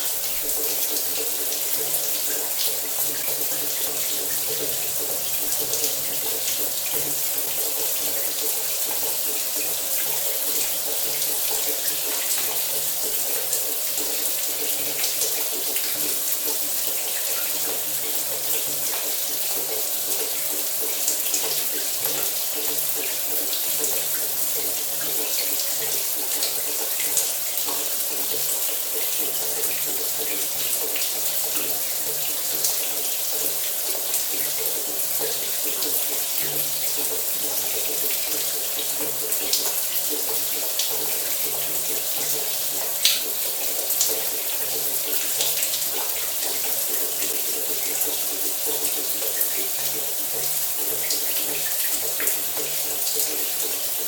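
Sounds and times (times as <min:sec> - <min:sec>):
shower water running: 0:00.0 - 0:54.0.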